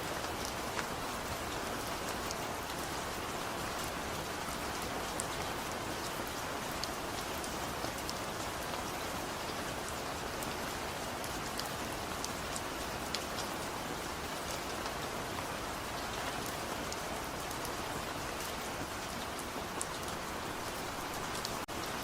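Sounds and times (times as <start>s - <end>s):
gentle rain falling: 0.0s - 22.0s.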